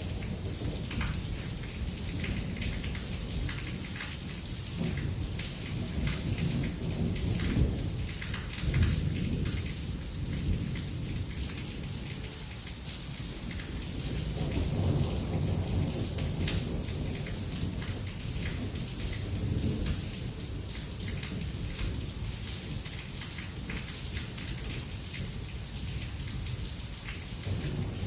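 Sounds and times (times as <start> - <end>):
heavy rain falling: 0.0 - 28.0
low rumble of thunder: 0.0 - 28.0.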